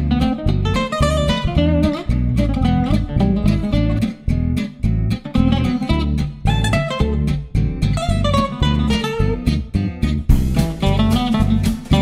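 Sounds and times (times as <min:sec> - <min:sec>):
plucked guitar: 0:00.0 - 0:12.0
steady low beat: 0:00.0 - 0:12.0.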